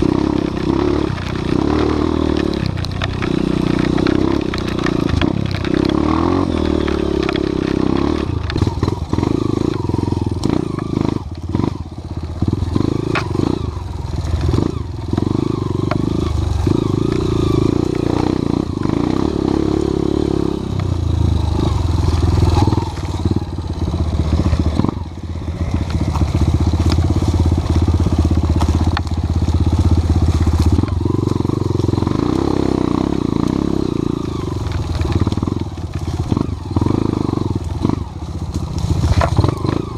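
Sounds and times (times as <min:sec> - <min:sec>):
motorcycle engine revving: 0:00.0 - 0:39.9
motorcycle knocking and clattering: 0:00.0 - 0:39.9.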